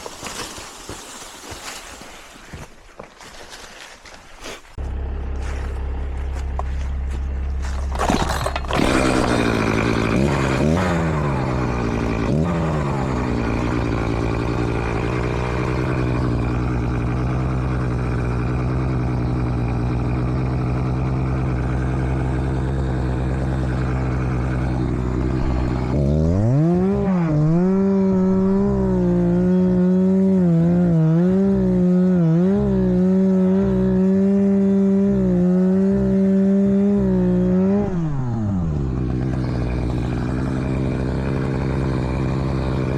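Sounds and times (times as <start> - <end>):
chainsaw idling and revving: 4.7 - 42.9.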